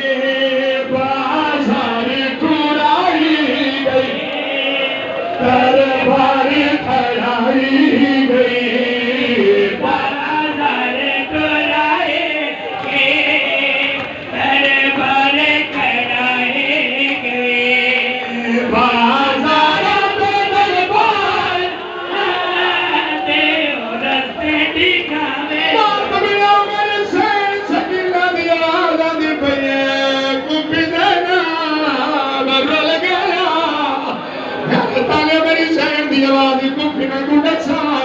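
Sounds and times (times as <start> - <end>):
men chanting: 0.0 - 38.0.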